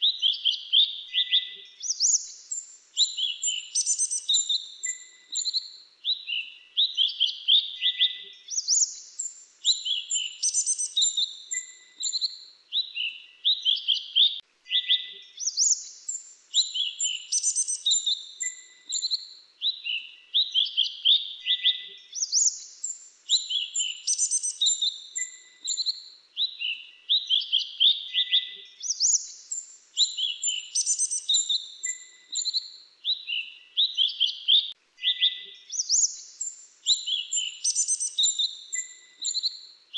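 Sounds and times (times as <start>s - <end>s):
bird chirping high thin calls: 1.2s - 5.7s, 7.1s - 19.3s, 21.5s - 26.0s, 26.7s - 39.6s.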